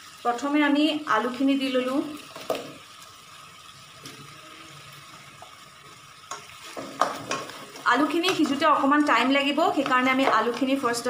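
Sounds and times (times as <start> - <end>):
stew sizzling in a pot: 0.0 - 11.0.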